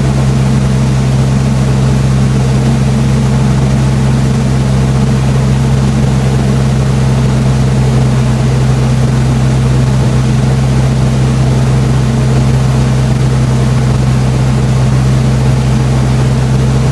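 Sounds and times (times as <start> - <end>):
car engine running loud: 0.0 - 16.9.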